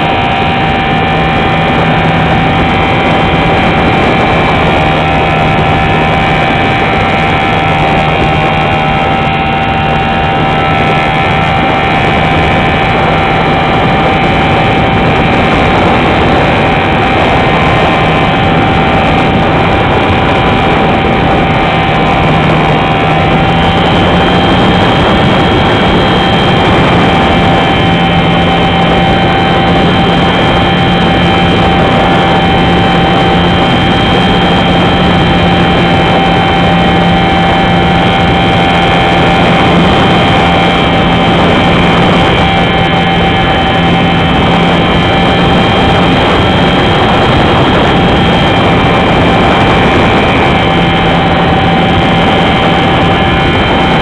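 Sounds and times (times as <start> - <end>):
high whine: 0.0 - 54.0
model plane motor and propeller: 0.0 - 54.0.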